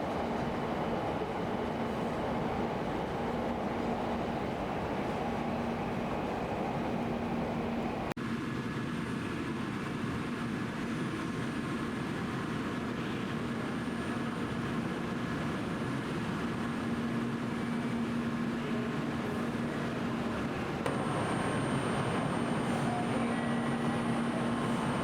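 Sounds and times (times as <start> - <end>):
train platform background noise: 0.0 - 25.0.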